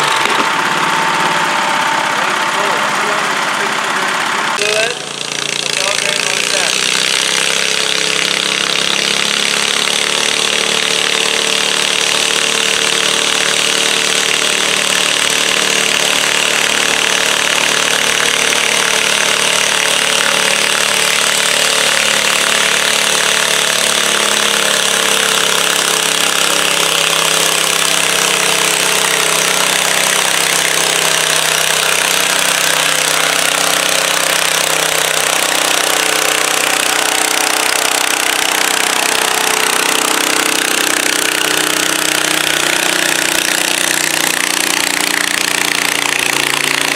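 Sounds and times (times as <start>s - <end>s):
garden tractor engine running: 0.0s - 46.9s.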